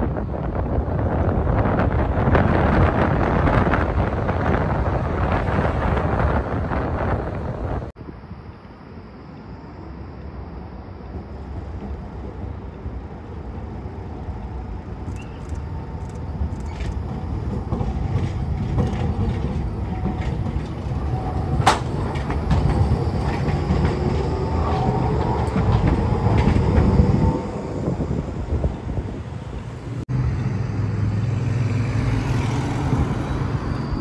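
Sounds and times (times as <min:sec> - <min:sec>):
tram rumble: 0:00.0 - 0:34.0.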